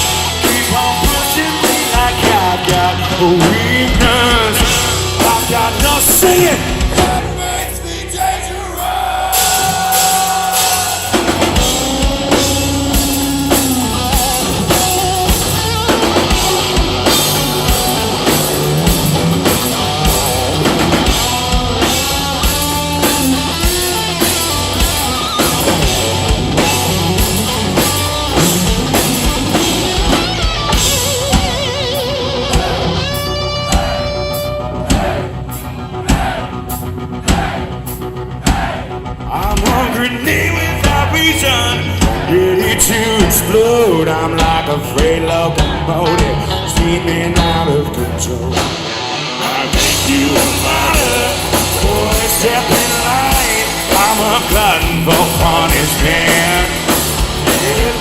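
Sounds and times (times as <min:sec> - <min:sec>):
electric guitar lead: 0:00.0 - 0:08.0, 0:09.3 - 0:37.2, 0:39.0 - 0:58.0
bass: 0:00.0 - 0:58.0
drum kit: 0:00.0 - 0:58.0.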